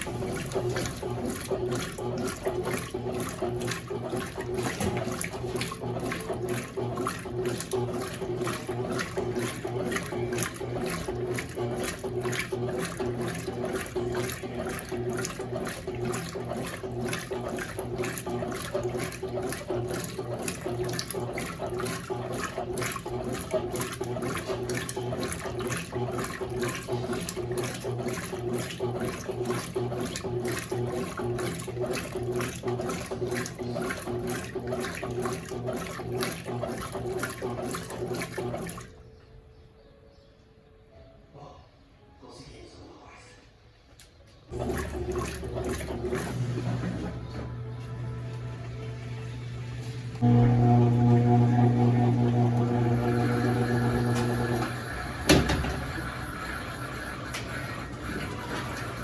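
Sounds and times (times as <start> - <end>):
agitator churning water: 0.0 - 39.4, 44.5 - 59.0
washing machine motor humming: 0.0 - 39.4, 44.5 - 59.0.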